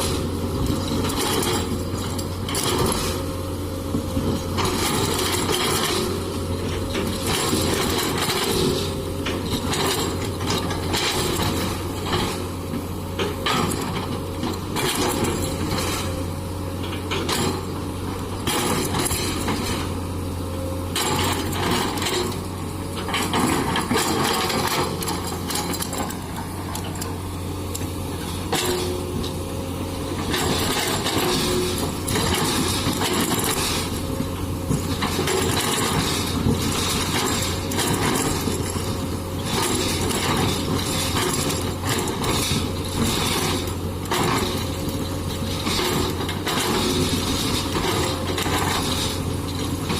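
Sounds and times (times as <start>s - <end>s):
excavator diesel engine running: 0.0s - 49.9s
clanks and rattles: 3.9s - 16.2s, 16.8s - 20.0s, 20.9s - 29.4s, 30.1s - 49.9s.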